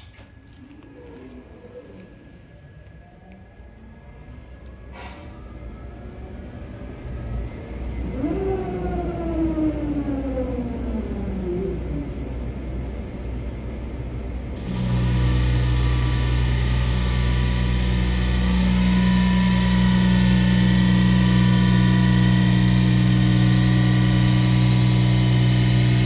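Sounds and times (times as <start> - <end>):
steady low tones: 1.3 - 26.0
lathe machine hum: 3.6 - 26.0.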